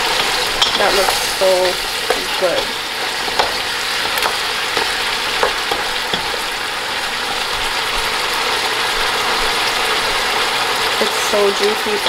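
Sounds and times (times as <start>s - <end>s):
meat sizzling in boiling stock: 0.0s - 12.0s.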